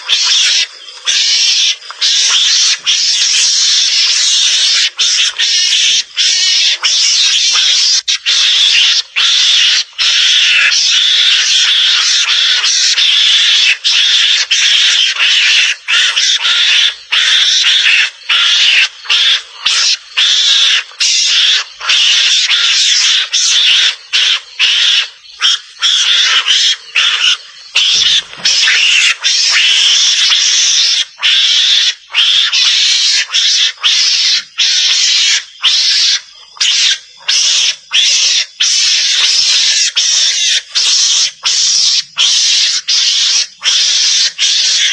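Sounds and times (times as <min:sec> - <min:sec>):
mongoose screeching chatter: 0:00.0 - 0:44.9.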